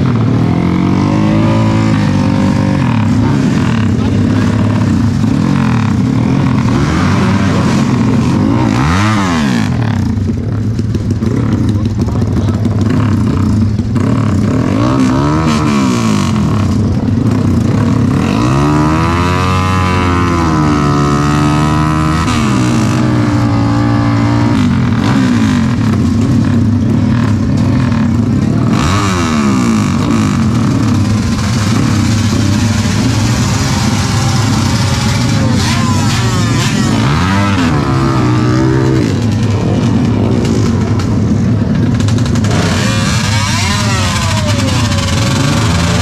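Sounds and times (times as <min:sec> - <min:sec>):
motorcycle engines revving: 0:00.0 - 0:46.0.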